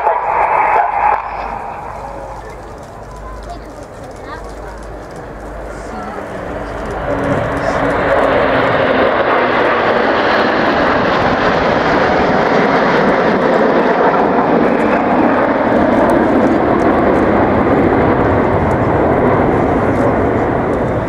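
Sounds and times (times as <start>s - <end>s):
jets flying past: 0.0s - 21.0s.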